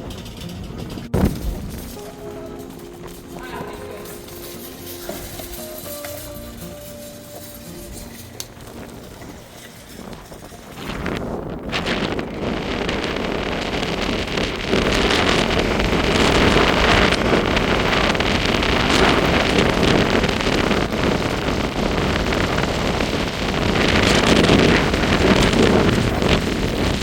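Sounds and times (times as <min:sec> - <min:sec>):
blizzard wind blowing: 0:00.0 - 0:27.0.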